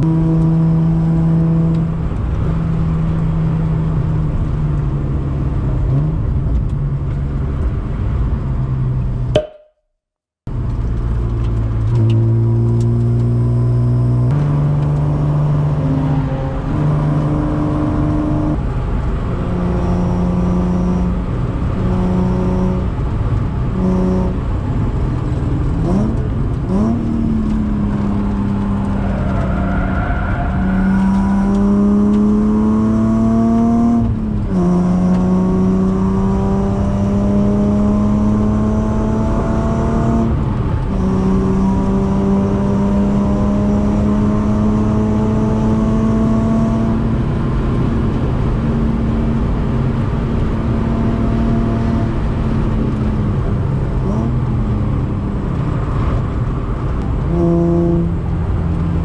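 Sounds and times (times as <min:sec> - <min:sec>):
car engine revving through gears: 0:00.0 - 0:04.6, 0:10.8 - 0:59.0.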